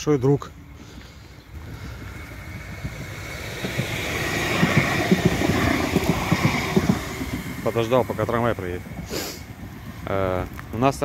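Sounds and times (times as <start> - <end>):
tram passing: 0.0 - 11.0
wheels clacking on rails: 0.2 - 11.0.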